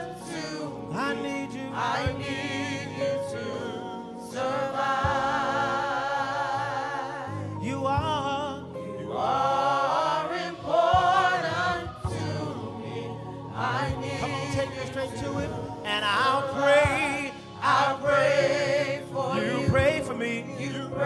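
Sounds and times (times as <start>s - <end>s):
gospel group singing: 0.0s - 21.0s
sustained chords: 0.0s - 21.0s.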